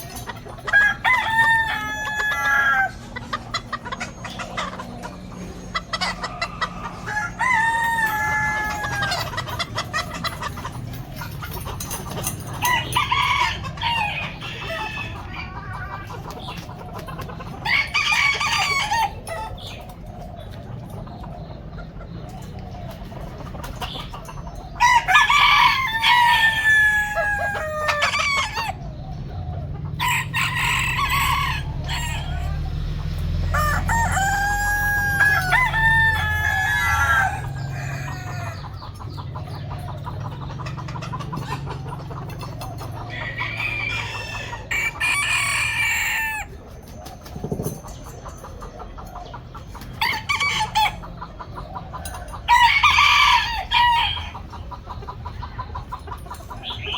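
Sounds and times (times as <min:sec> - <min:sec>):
chickens clucking: 0:00.0 - 0:56.9
roosters crowing: 0:00.0 - 0:56.9.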